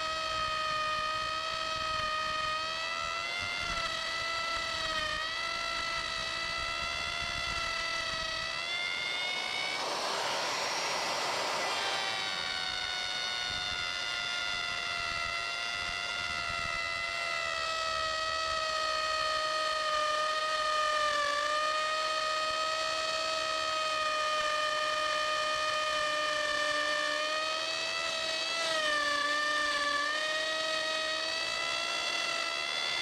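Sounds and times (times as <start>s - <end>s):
electric router motor whine: 0.0s - 33.0s
router bit cutting wood: 0.0s - 33.0s.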